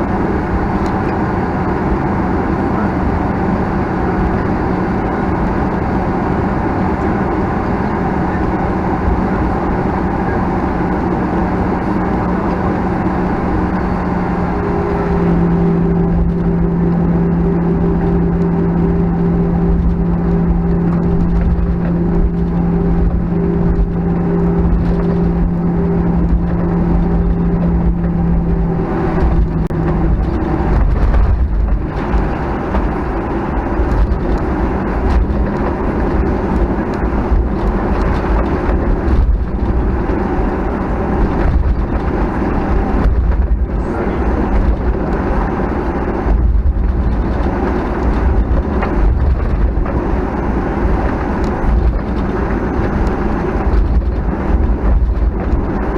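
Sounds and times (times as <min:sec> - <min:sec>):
jet engines heard from cabin: 0:00.0 - 0:55.9.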